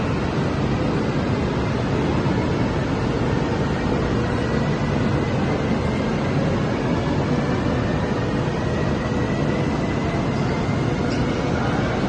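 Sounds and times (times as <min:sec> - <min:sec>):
electric train rumbling and hissing: 0:00.0 - 0:12.0.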